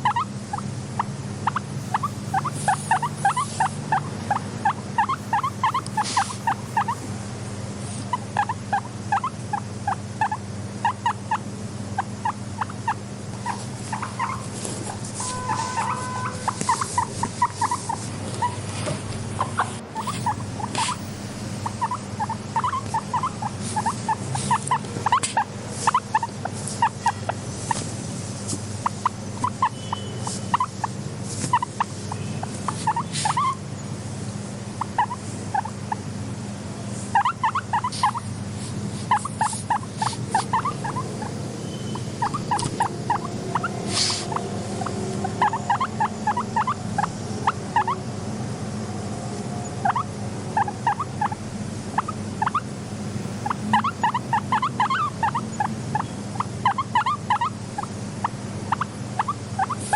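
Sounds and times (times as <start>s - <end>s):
guinea pig squeaking: 0.0s - 7.1s, 7.8s - 33.8s, 34.7s - 36.0s, 37.1s - 48.1s, 49.7s - 59.9s
steady low hum: 0.0s - 59.9s.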